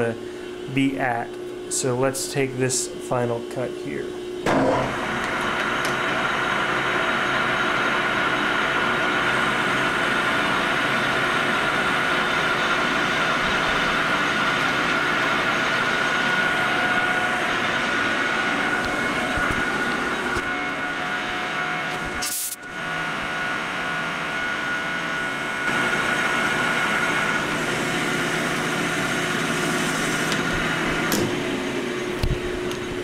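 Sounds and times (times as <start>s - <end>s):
metal lathe whining: 4.5s - 33.0s.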